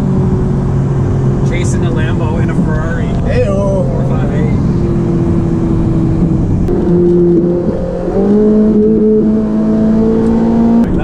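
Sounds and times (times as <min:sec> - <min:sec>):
sports car engine running: 0:00.0 - 0:11.0.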